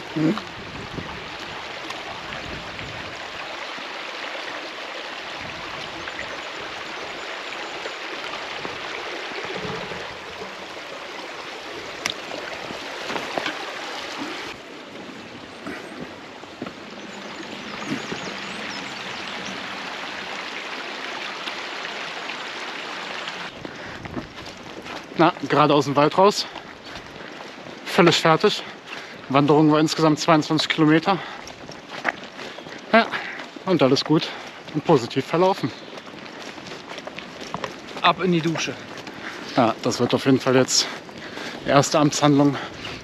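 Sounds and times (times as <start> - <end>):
stream babbling over stones: 0.0 - 43.0.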